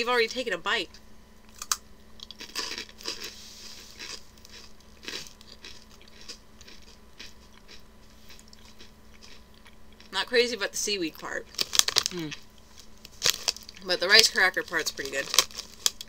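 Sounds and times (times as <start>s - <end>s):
snack bag crinkling: 1.5s - 10.1s, 11.4s - 16.0s
crunching rice crackers: 1.5s - 10.2s, 11.4s - 16.0s.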